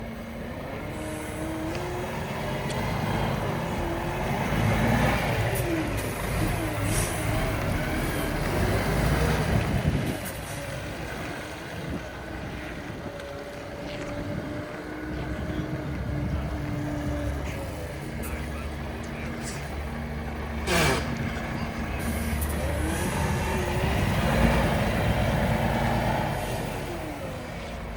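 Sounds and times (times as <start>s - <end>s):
truck diesel engine revving and idling: 0.0s - 27.9s.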